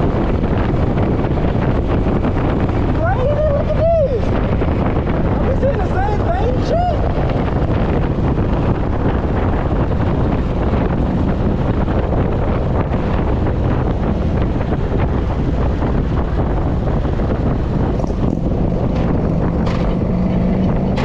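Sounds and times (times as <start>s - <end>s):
motorcycle low rumble: 0.0s - 21.0s
wind buffeting microphone: 0.0s - 21.0s.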